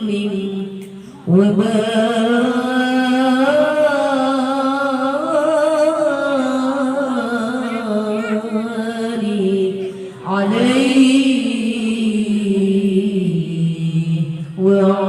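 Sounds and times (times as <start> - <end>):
person singing long devotional chant: 0.0 - 15.0.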